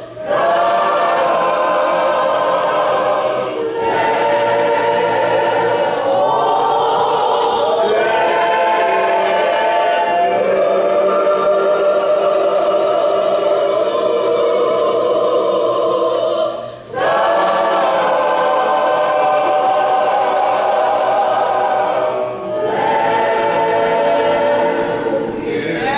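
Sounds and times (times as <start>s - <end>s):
mixed choir singing: 0.0s - 25.9s.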